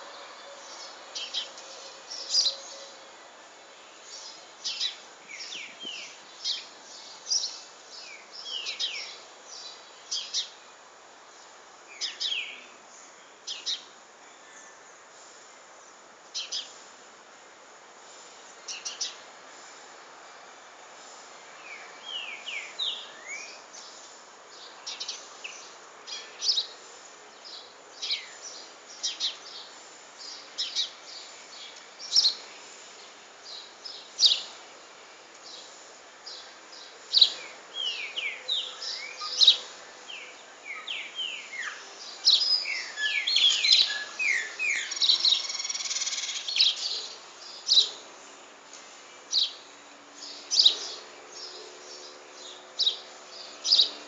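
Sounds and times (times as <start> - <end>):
songbirds chirping and calling: 0.0 - 15.1, 15.8 - 16.9, 18.2 - 19.9, 21.0 - 54.0.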